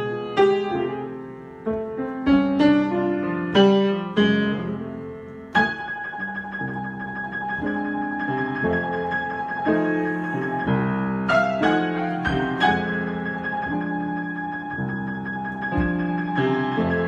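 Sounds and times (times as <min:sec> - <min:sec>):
piano chords and runs: 0:00.0 - 0:17.0.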